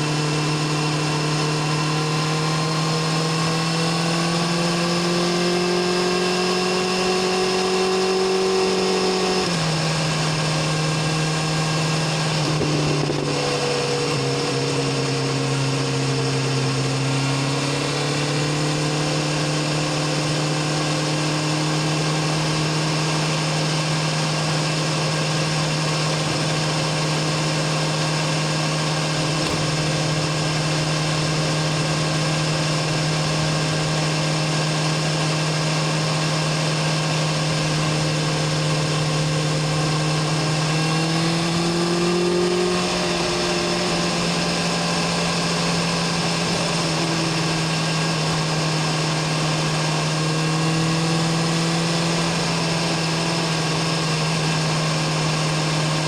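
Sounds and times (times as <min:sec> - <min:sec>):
motorcycle engine and exhaust cruising: 0:00.0 - 0:56.0.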